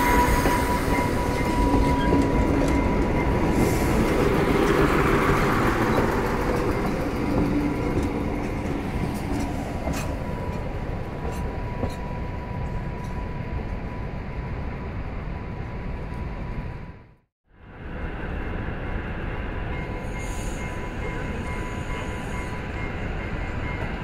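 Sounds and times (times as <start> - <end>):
diesel railcar rumbling past: 0.0 - 24.0.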